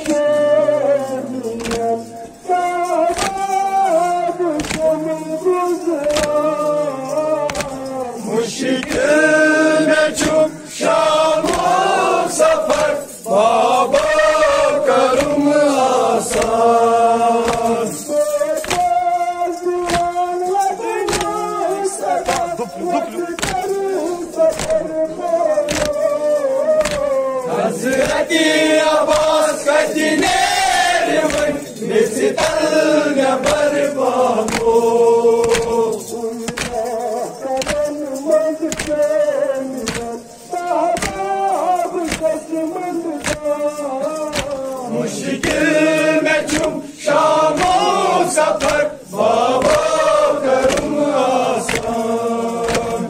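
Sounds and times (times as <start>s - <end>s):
group of voices singing: 0.0s - 53.0s
sharp beats: 0.0s - 53.0s.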